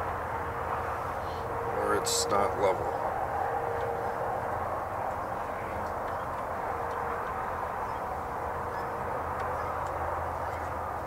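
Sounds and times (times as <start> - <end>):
distant engine drone: 0.0 - 11.0.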